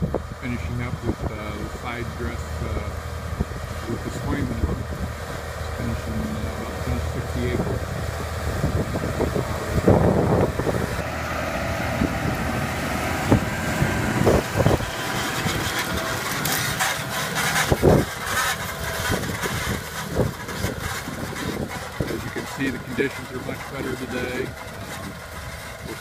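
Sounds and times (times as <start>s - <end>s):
tractor engine under load: 0.0s - 26.0s.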